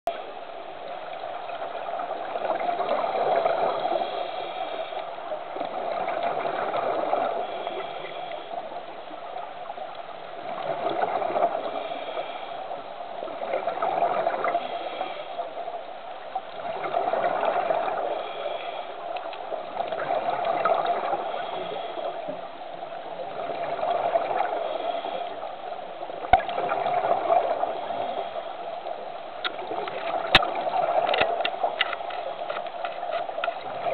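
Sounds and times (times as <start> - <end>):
underwater rushing and gurgling: 0.1 - 33.9.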